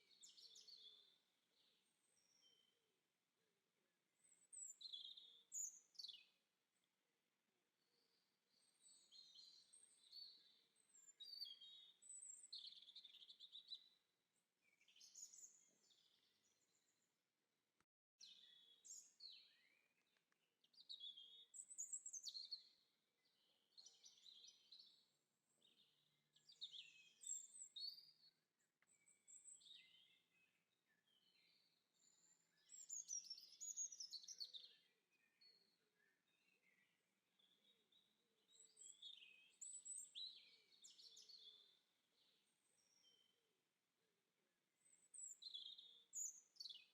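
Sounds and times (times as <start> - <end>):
faint songbirds chirping: 0.0 - 46.9.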